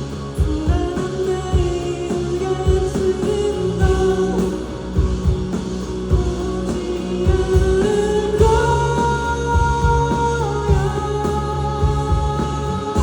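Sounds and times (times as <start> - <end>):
pop-rock band playing: 0.0 - 13.0.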